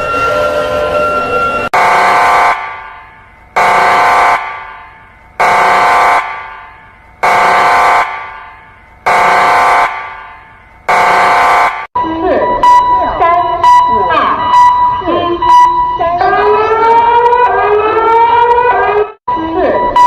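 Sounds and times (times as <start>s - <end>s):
warning siren blasts: 0.0s - 20.0s.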